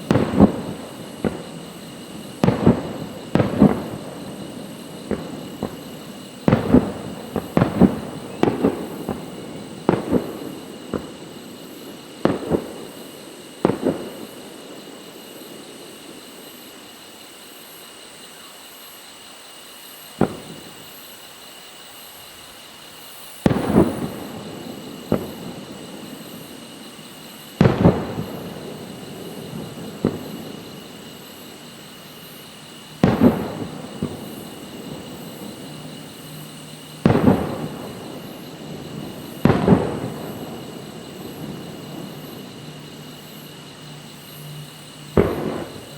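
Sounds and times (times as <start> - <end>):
fireworks bursting: 0.0 - 18.5, 19.6 - 45.9.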